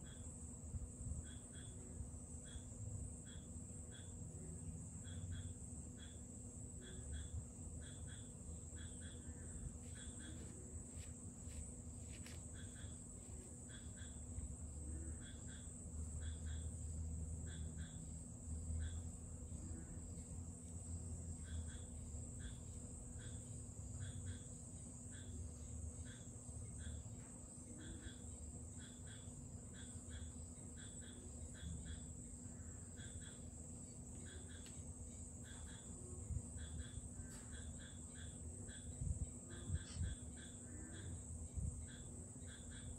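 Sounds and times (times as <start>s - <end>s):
faint insect chirping: 0.0s - 42.9s.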